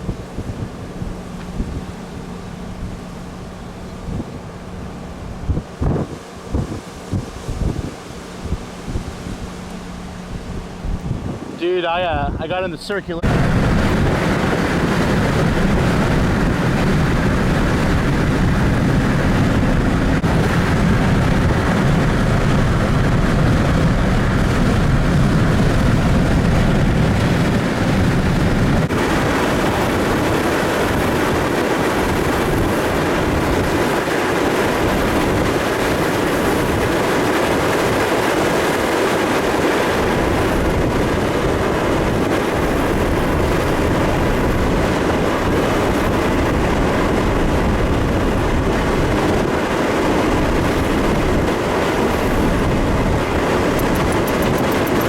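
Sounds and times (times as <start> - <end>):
strong wind buffeting microphone: 0.0 - 55.0.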